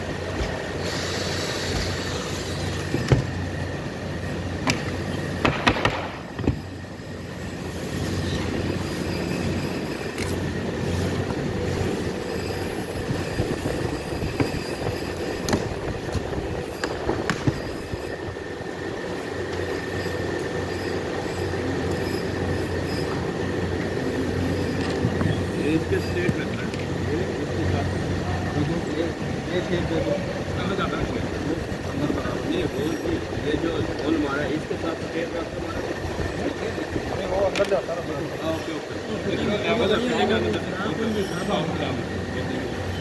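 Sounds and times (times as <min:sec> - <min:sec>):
workshop machinery humming: 0:00.0 - 0:43.0.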